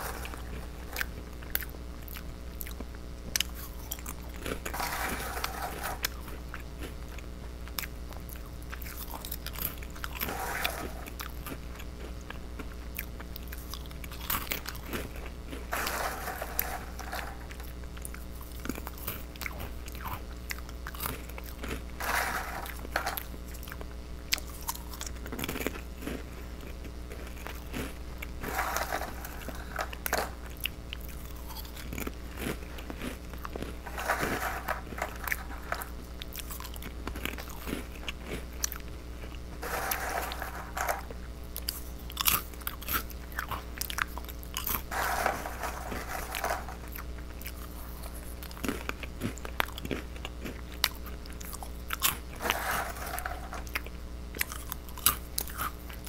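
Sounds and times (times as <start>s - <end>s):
faint low hum: 0.0s - 56.0s
person crunching crackers: 0.0s - 56.0s.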